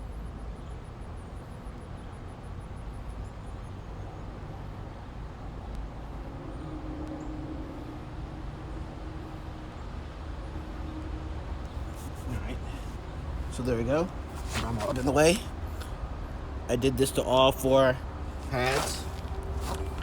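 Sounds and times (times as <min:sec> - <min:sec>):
faint hum: 0:00.0 - 0:20.0
road traffic rumble: 0:00.0 - 0:20.0.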